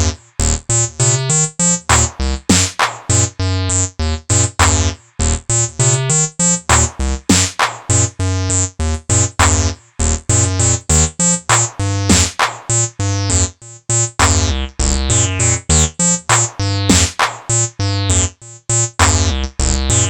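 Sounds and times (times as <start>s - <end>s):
acid synth bassline: 0.0s - 20.0s.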